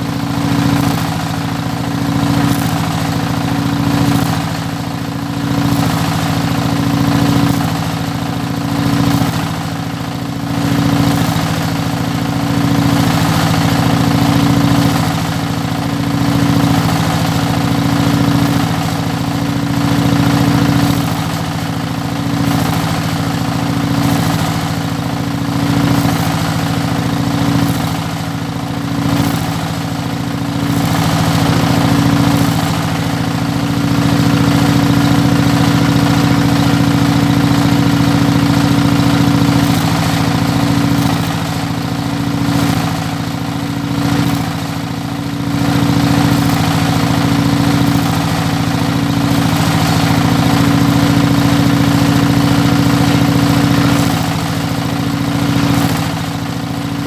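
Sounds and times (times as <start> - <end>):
loud steady engine hum: 0.0 - 57.0.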